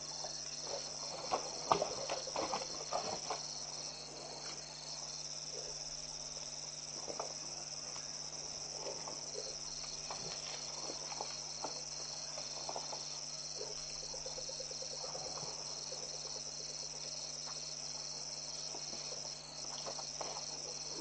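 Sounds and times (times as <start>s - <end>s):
insect drone: 0.0s - 21.0s
pulsing insect trill: 0.0s - 21.0s.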